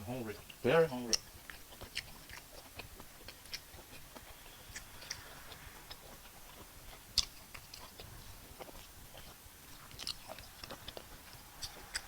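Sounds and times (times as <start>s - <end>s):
wet eating clicks and smacks: 0.2s - 12.0s.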